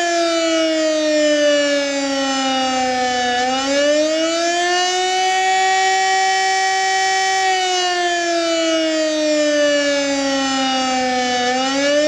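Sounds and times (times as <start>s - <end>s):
civil defence siren wailing: 0.0s - 12.0s.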